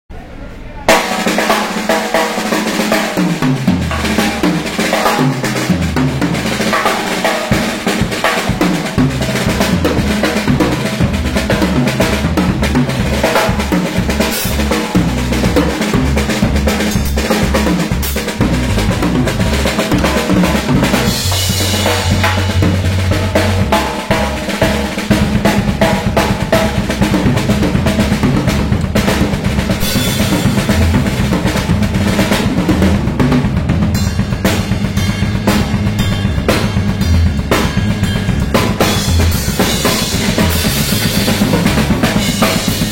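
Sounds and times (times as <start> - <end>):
drum kit beat: 0.9 - 42.9
low bass notes: 3.4 - 42.9.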